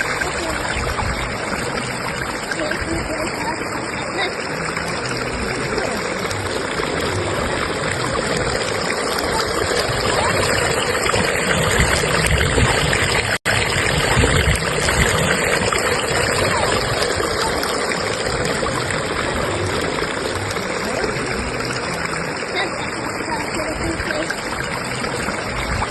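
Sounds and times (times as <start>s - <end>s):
stream rushing over rocks: 0.0s - 25.9s.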